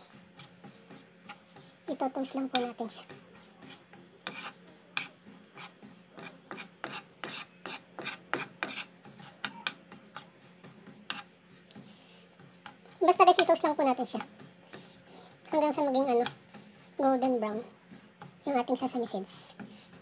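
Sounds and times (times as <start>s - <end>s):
spatula scraping seeds in pan: 0.0s - 20.0s.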